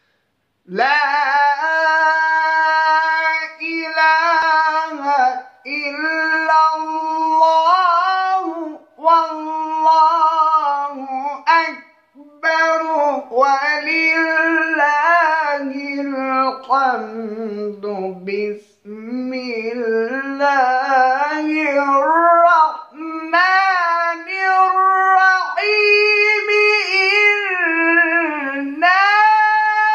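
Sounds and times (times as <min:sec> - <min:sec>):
man reciting melodically: 0:00.5 - 0:29.9.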